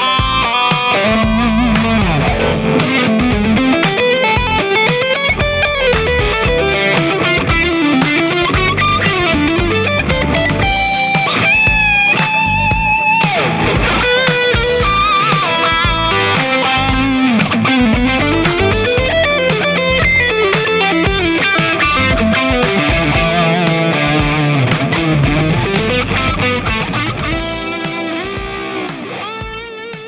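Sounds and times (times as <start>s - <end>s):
electric guitar solo: 0.0s - 30.0s.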